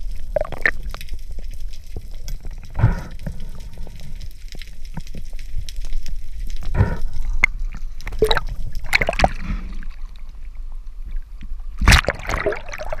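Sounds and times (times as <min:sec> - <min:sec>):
water gurgling: 0:00.0 - 0:10.3, 0:11.8 - 0:13.0
sea water sloshing and splashing: 0:00.0 - 0:13.0.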